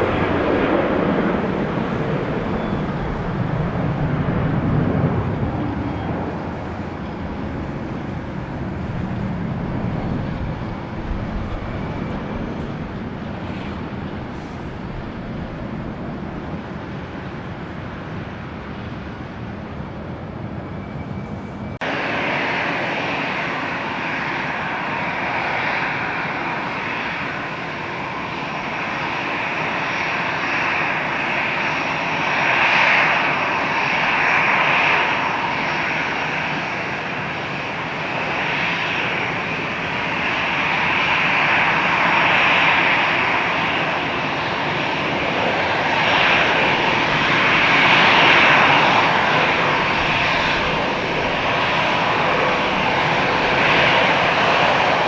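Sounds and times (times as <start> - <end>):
jet engines rushing: 0.0 - 55.0.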